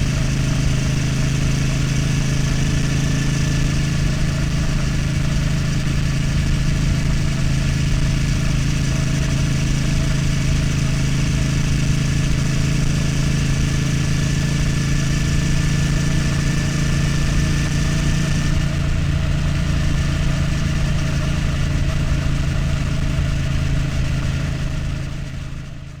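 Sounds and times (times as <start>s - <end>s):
motorcycle engine running steadily: 0.0s - 26.0s.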